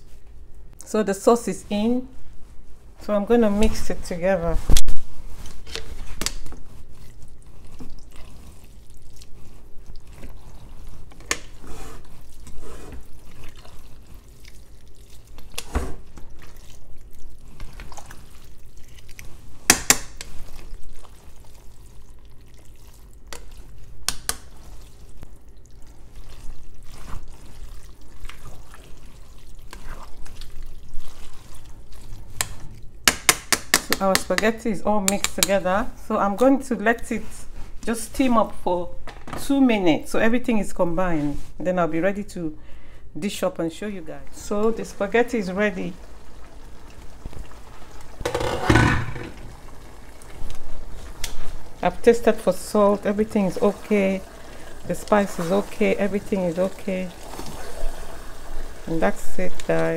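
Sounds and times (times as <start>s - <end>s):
wet squelching of pasta stirring: 0.0s - 38.7s, 39.5s - 59.9s.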